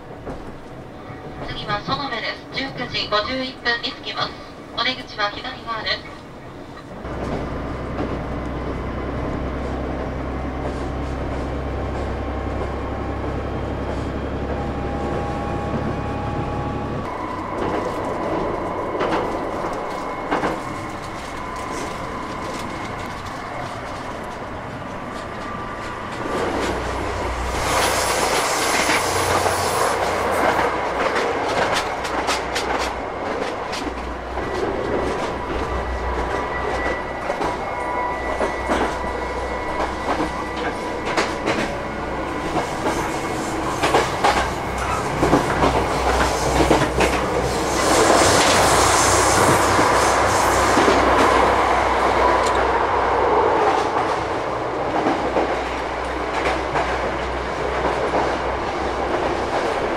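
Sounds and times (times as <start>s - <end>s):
railcar running rumble: 0.0s - 59.9s.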